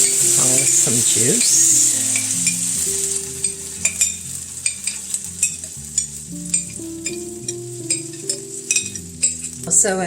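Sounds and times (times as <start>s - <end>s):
light sizzle: 0.0s - 10.0s
soft background music: 0.0s - 10.0s
utensil scraping frying pan: 0.0s - 10.0s.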